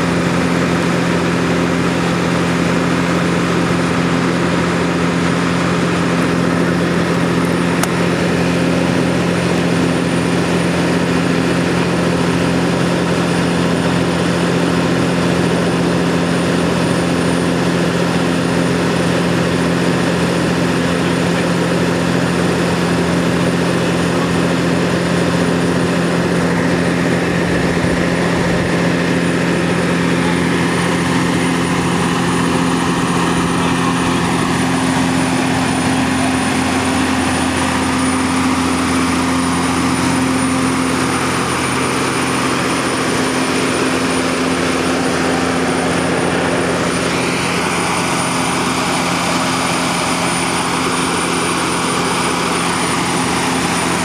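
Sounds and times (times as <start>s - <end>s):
fire engine running: 0.0s - 54.0s.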